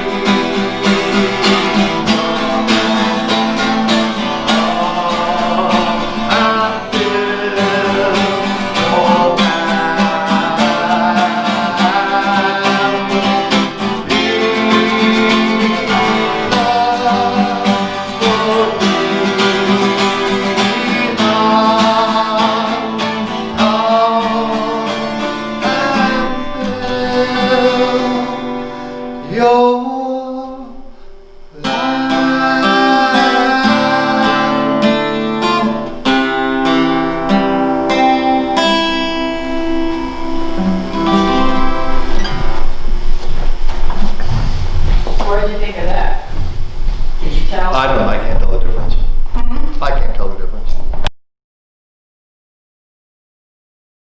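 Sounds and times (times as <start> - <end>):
acoustic guitar strumming chords: 0.0 - 51.1.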